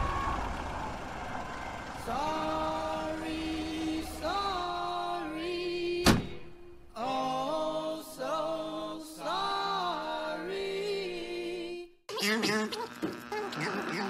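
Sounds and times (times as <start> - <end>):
choir-like chords: 0.0 - 11.9.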